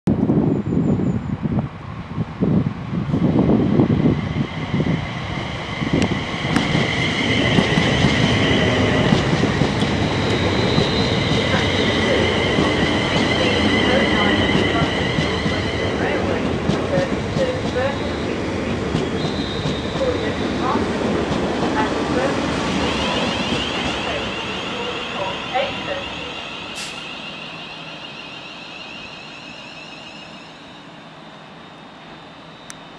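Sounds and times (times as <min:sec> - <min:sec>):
train wheels rumbling on rails: 0:00.2 - 0:30.6
high-pitched train whine: 0:02.4 - 0:32.9.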